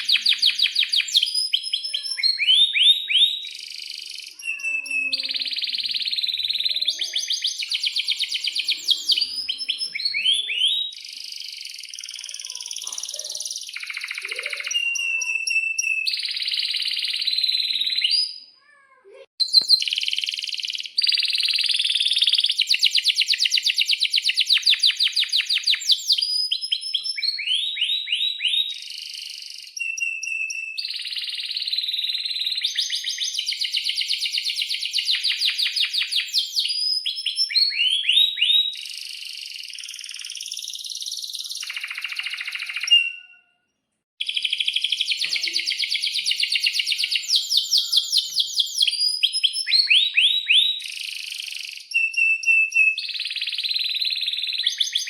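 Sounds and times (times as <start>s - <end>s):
canaries singing: 0.0s - 43.5s, 44.2s - 55.0s.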